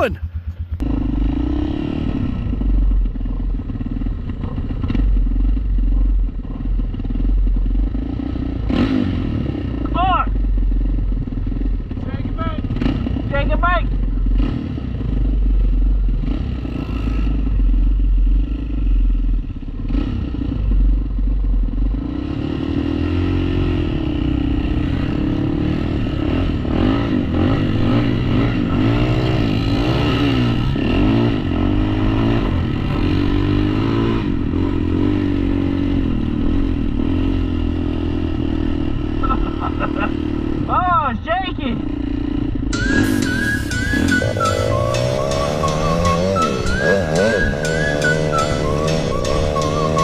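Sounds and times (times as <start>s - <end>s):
atv engine revving: 0.0s - 50.0s.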